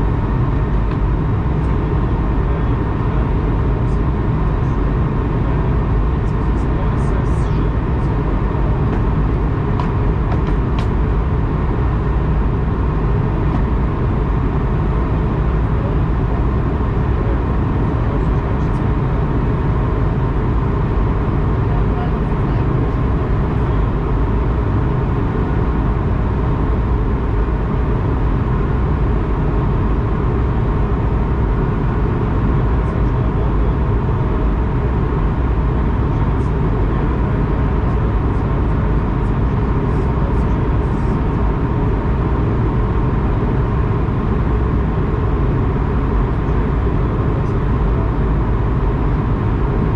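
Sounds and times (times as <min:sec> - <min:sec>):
airplane engine and airflow rumble: 0:00.0 - 0:49.9
faint steady hums: 0:00.0 - 0:49.9.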